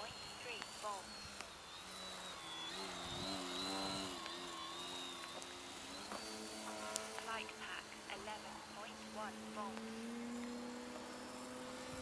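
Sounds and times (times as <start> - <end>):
model plane propeller buzzing: 0.0 - 12.0.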